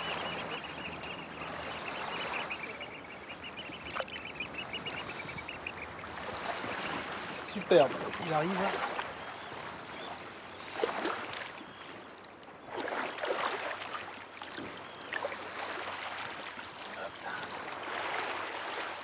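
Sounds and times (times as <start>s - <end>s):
fish splashing in shallow water: 0.0s - 12.0s, 12.6s - 19.0s.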